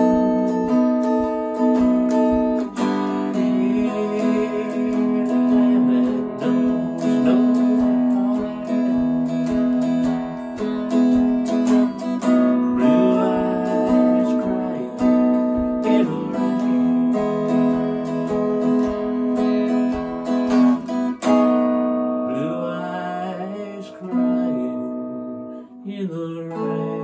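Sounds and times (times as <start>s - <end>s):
clean electric guitar country ballad: 0.0s - 27.0s.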